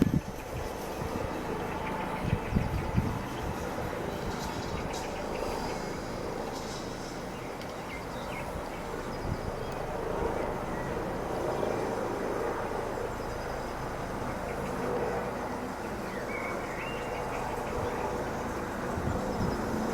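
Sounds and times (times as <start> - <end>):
helicopter rotor drone: 0.0 - 19.9.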